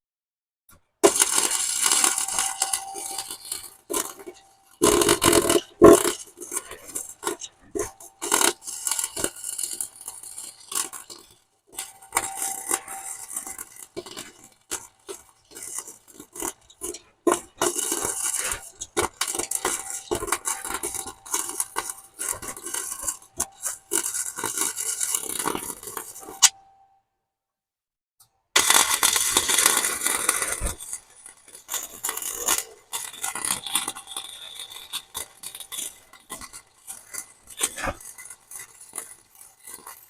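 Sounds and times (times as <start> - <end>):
welding arc crackling and sputtering: 1.0 - 26.6, 28.6 - 40.0.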